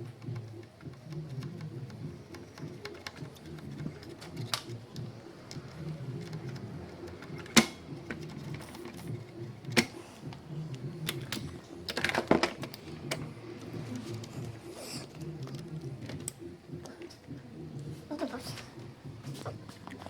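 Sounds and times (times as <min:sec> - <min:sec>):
low steady murmur: 0:00.0 - 0:20.0.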